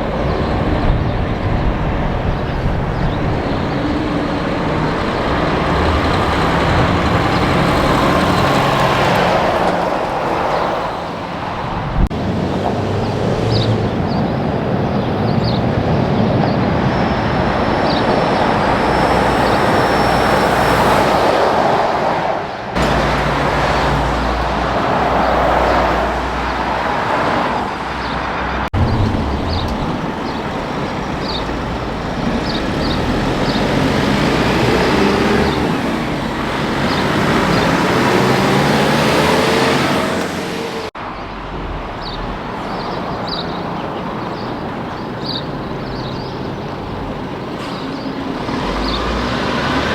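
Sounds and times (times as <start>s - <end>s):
heavy trucks passing: 0.0s - 49.9s.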